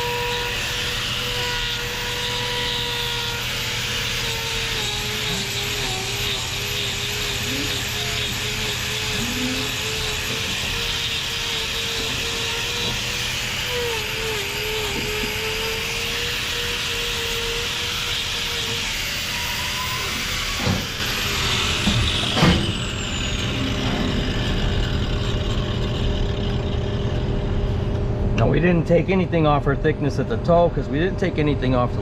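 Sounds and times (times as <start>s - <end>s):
angle grinder cutting hoof: 0.0s - 27.8s.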